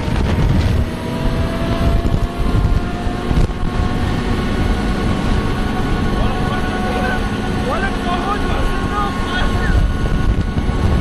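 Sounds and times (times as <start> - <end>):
engine and road rumble: 0.0 - 11.0
wind buffeting microphone: 0.0 - 11.0
faint rising whine: 0.6 - 11.0.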